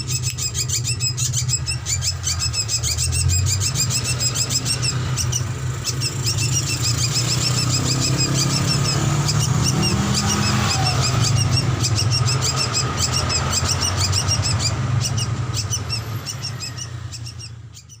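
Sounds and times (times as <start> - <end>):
bird chirping rapidly: 0.0 - 18.0.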